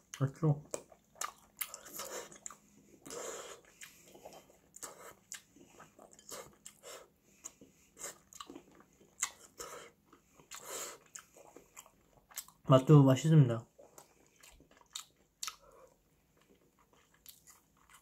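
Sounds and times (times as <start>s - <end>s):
wet chewing sounds: 0.0s - 12.6s, 13.8s - 18.0s.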